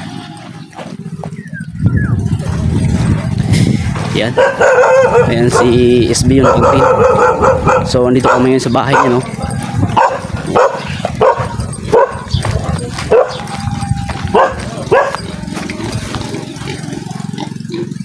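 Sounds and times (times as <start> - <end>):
steady low drone: 0.0 - 18.0
dog barking: 2.4 - 17.4.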